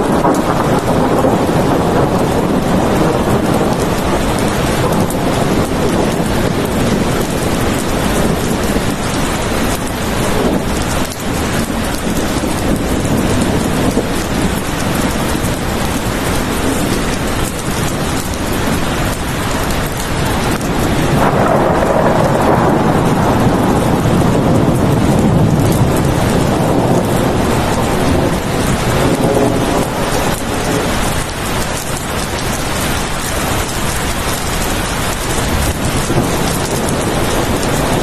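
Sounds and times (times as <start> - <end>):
heavy rain: 0.0 - 38.0
thunder rumbling: 0.0 - 38.0.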